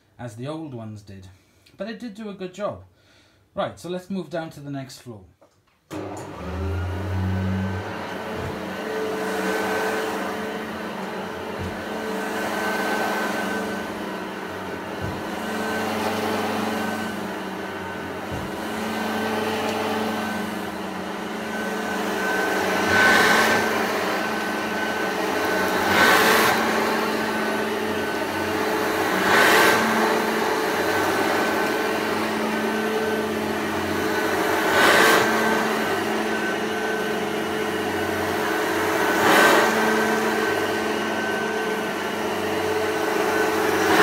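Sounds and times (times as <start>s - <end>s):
vacuum cleaner motor whine: 5.9s - 44.0s.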